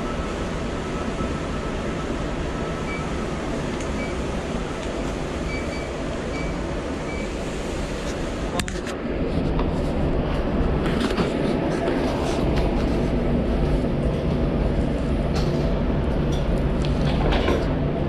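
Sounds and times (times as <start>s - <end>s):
kitchen ventilation rushing: 1.7s - 18.0s.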